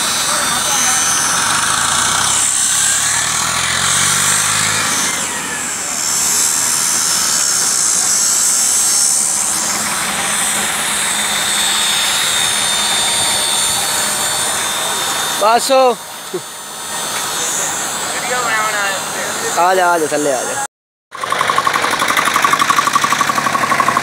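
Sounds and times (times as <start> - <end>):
tractor engine straining: 0.0 - 19.5, 21.1 - 24.0.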